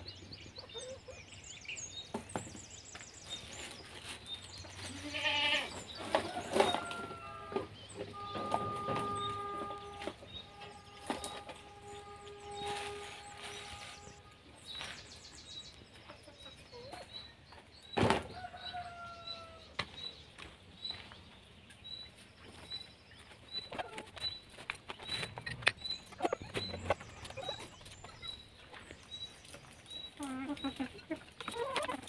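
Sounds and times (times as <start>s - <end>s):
chickens calling: 0.0s - 32.0s.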